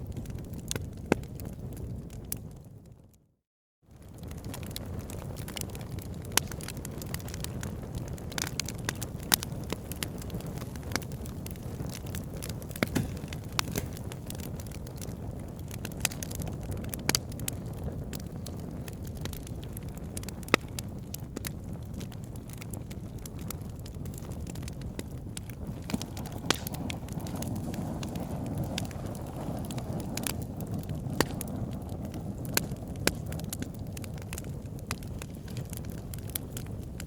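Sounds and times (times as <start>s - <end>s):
campfire crackling and popping: 0.0s - 3.2s, 3.9s - 37.0s.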